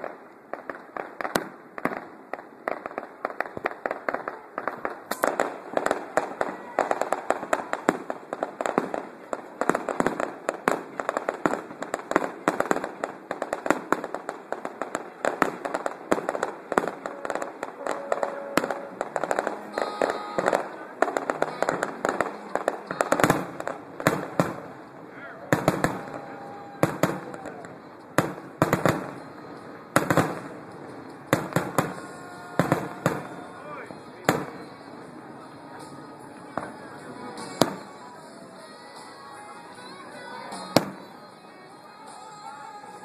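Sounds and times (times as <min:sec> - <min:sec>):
fireworks crackling and popping: 0:00.0 - 0:43.0.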